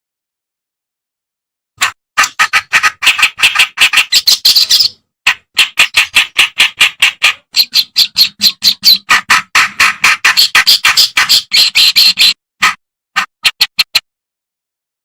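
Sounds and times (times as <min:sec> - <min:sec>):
bird singing harsh scratchy notes: 0:01.8 - 0:14.1.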